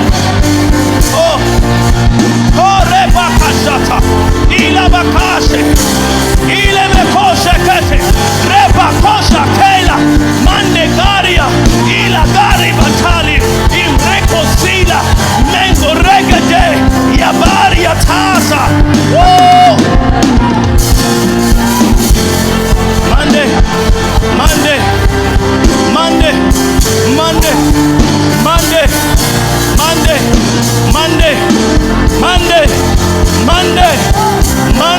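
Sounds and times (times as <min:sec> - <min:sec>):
loud live worship music: 0:00.0 - 0:34.9.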